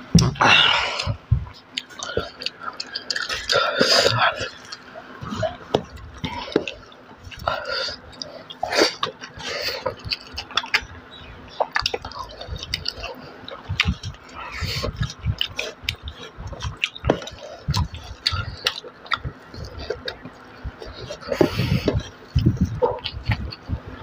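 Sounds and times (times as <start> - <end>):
chewing and mouth smacking: 1.0 - 24.0.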